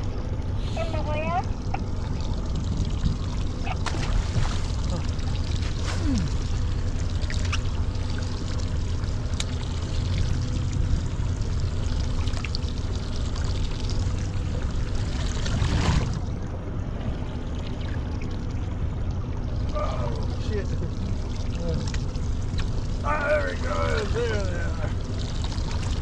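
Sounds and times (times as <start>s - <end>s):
low boat hum: 0.0s - 26.0s
water and wind rushing: 0.0s - 26.0s.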